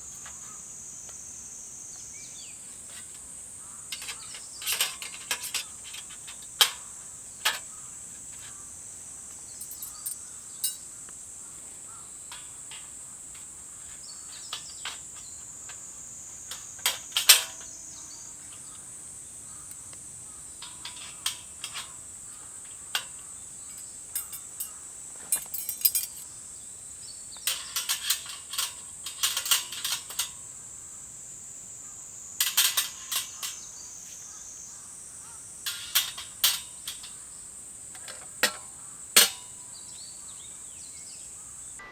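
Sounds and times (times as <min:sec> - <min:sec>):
crickets chirring: 0:00.0 - 0:41.9.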